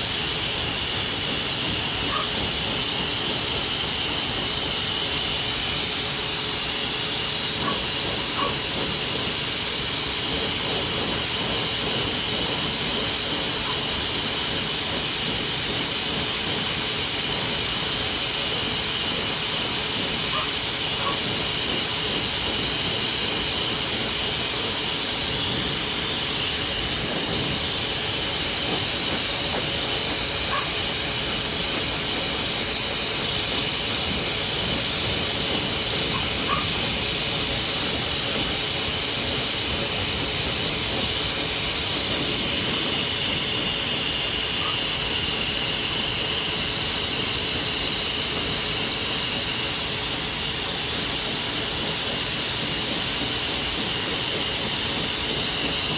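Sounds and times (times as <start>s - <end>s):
pet blow dryer running: 0.0s - 55.9s.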